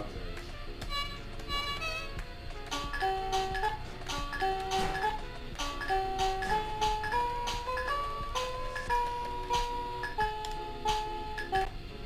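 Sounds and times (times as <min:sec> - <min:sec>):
buzzy electronic keyboard melody: 0:00.0 - 0:12.0
ticking rhythm percussion: 0:00.3 - 0:11.7.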